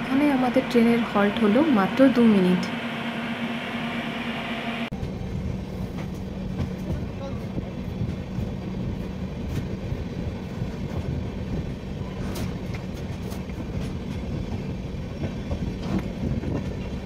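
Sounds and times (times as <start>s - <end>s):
train rumble inside coach: 0.0s - 17.0s.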